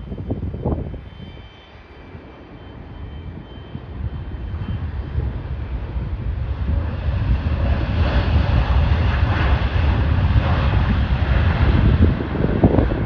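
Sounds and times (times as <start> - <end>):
jet engines rumbling and hissing: 0.0 - 13.0.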